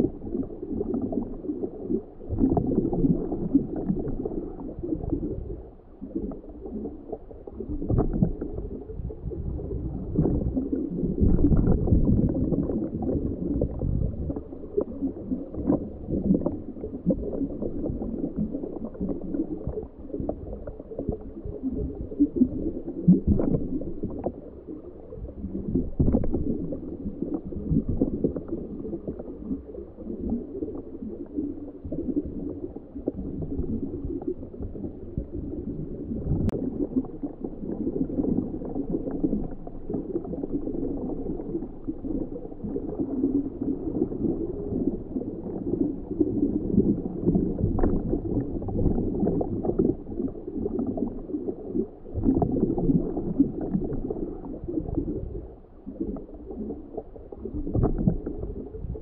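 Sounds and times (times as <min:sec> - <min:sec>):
underwater gurgling and rumbling: 0:00.0 - 0:59.0.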